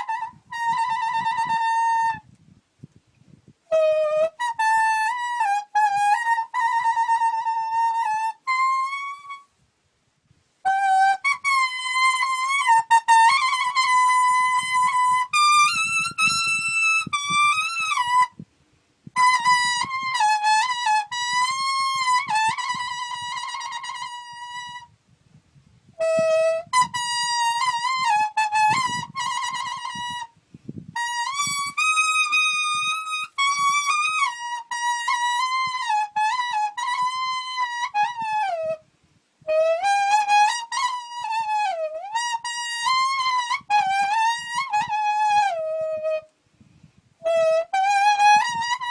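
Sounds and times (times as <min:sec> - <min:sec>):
leaf blown like a reed melody: 0:00.0 - 0:48.9.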